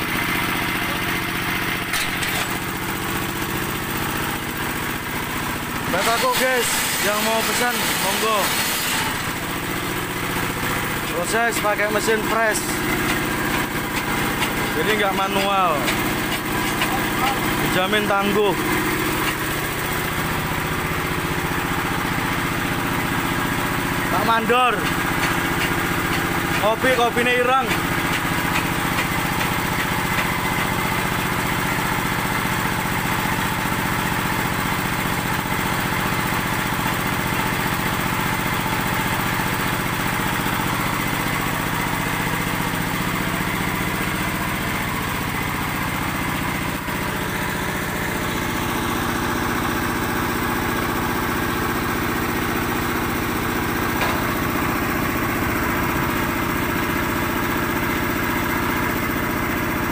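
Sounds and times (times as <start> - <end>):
concrete mixer engine running: 0.0 - 59.9.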